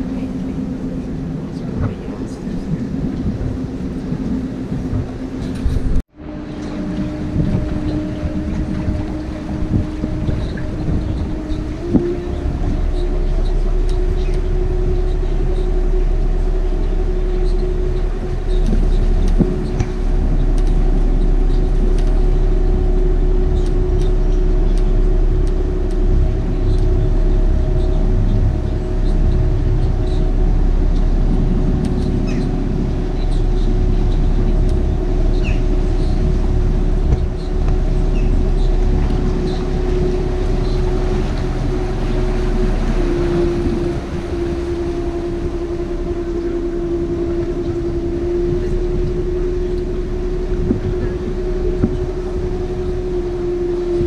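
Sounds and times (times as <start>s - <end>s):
boat motor humming: 0.0s - 54.0s
wind on microphone: 0.0s - 54.0s.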